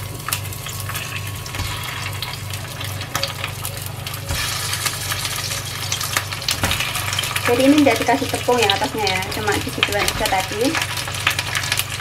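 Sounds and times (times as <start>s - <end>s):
low steady hum: 0.0s - 12.0s
oil sizzling in frying pan: 0.0s - 12.0s.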